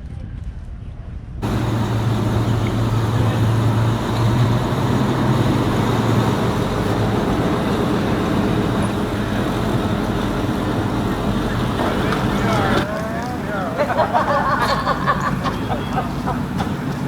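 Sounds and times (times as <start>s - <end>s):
car engine running: 1.4s - 17.0s.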